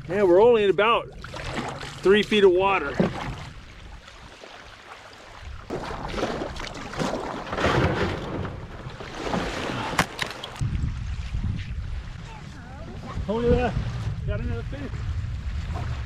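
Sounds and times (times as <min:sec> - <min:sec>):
low wind: 0:00.0 - 0:16.0
water and hull scraping: 0:00.0 - 0:16.0.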